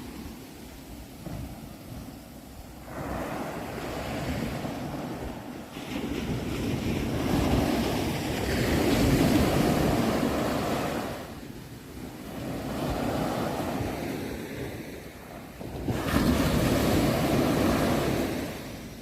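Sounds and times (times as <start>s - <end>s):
ocean waves breaking: 0.0s - 19.0s
wind noise on microphone: 0.0s - 19.0s.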